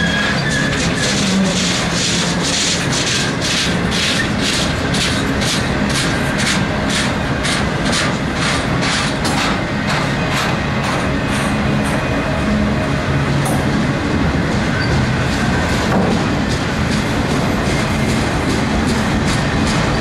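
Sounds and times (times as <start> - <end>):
wheels clickety-clack: 0.0 - 12.1, 13.4 - 20.0
freight train wheels rumbling: 0.0 - 20.0.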